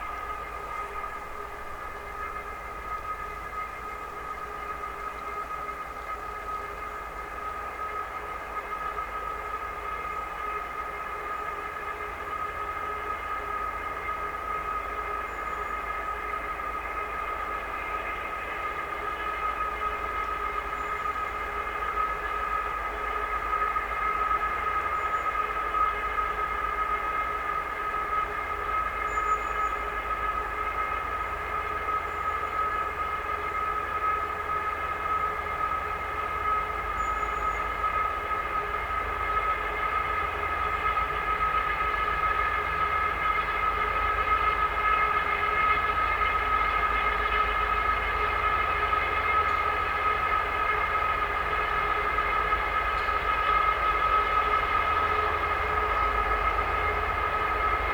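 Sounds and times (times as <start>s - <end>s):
locomotive high whine: 0.0s - 57.9s
locomotive running rumble: 0.0s - 57.9s.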